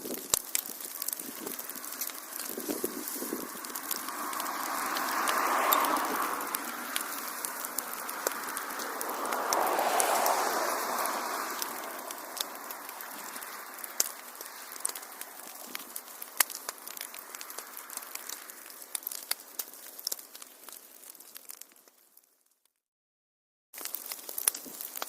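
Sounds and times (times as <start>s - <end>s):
wood fire crackling: 0.0s - 22.6s, 23.8s - 25.0s.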